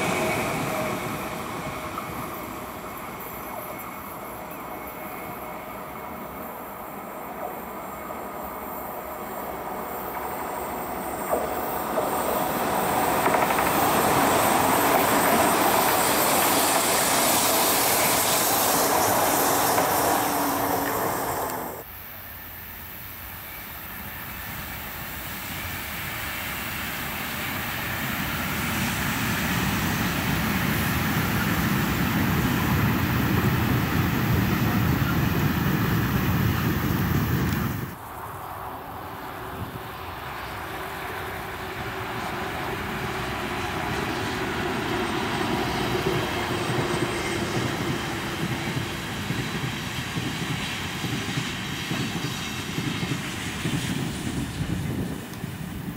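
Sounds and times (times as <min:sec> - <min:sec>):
freight train rumble: 0:00.0 - 0:55.9
high-speed train passing: 0:00.0 - 0:55.9.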